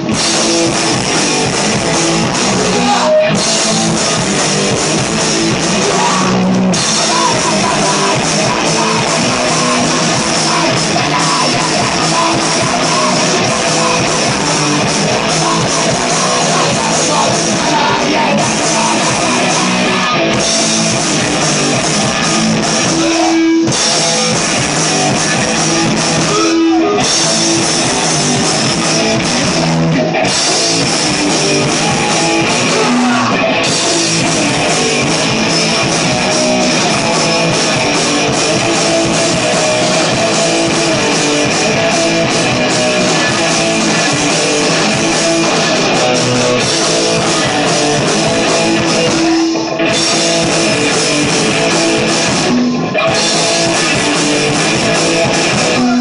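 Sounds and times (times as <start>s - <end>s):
person singing: 0.0s - 28.0s, 30.0s - 56.0s
punk rock band playing live: 0.0s - 56.0s.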